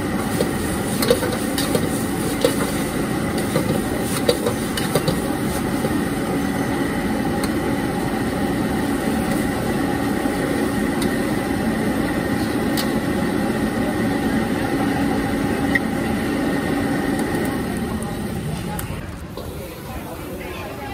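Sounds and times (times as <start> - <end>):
gas burner and blower humming: 0.0 - 20.9.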